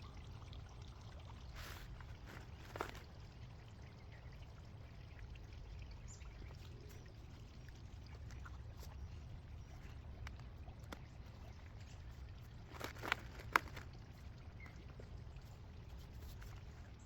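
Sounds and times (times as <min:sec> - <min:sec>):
soil crumbling and trickling: 0:00.0 - 0:17.0.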